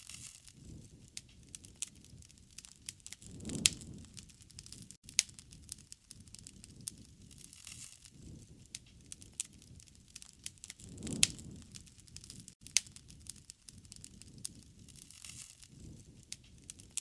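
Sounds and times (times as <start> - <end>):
campfire crackling and popping: 0.0 - 17.0
low rush of flame: 0.0 - 17.0.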